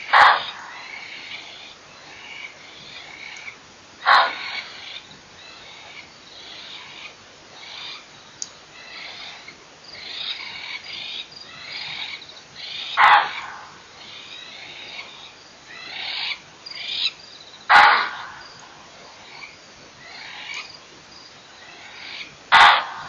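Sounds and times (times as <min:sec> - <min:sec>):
harsh animal alarm calls: 0:00.0 - 0:08.1, 0:08.8 - 0:17.1, 0:17.7 - 0:20.7, 0:21.6 - 0:23.0
chorus of chirping frogs or insects: 0:00.0 - 0:23.0.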